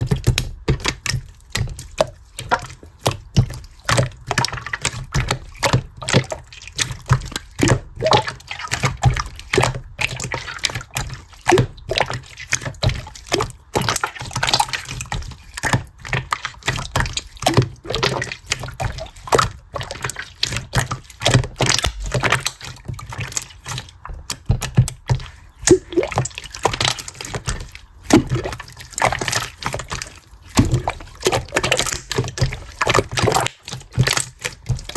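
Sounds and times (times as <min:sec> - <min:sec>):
wet clicks and taps: 0:00.0 - 0:34.9.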